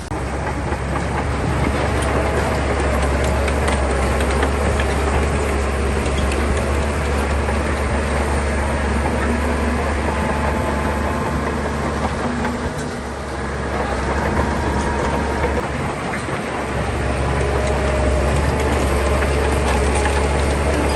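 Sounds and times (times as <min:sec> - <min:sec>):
bulldozer diesel engine: 0:00.0 - 0:20.9.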